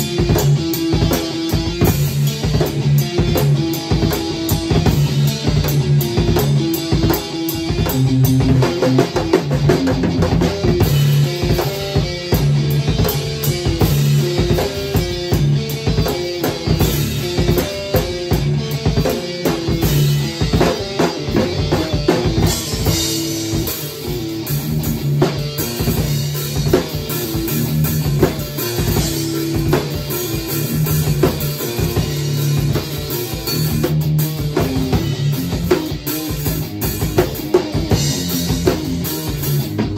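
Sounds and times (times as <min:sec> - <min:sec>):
drum kit playing: 0:00.0 - 0:39.9
electric guitar riff: 0:00.0 - 0:39.9.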